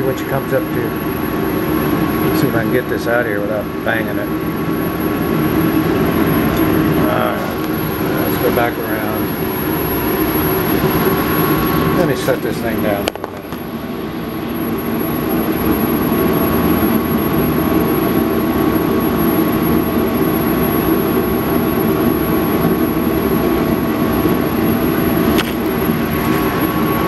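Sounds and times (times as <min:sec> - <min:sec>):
faint high whine: 0:00.0 - 0:27.0
metal lathe humming: 0:00.0 - 0:27.0.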